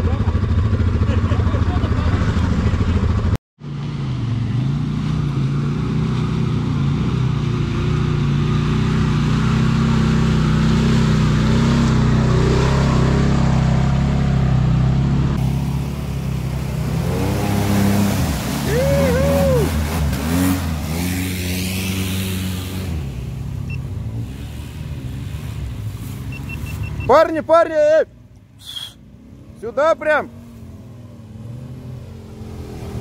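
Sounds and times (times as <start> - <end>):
engine revving in mud: 0.0 - 27.4, 29.2 - 33.0
off-road engines running: 0.0 - 33.0.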